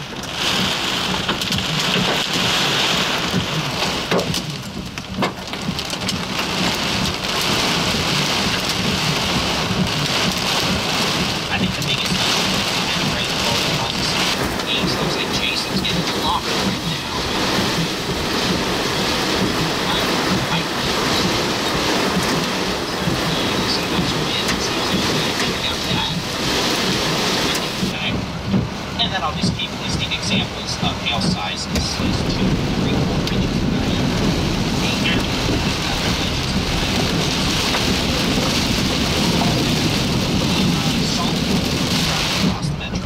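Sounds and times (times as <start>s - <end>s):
wind and heavy rain rushing: 0.0s - 43.0s.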